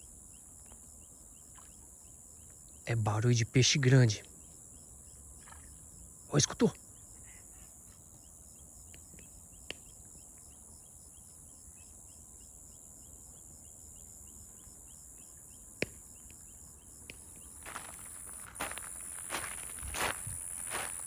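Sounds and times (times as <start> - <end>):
night insects chirping: 0.0 - 21.0.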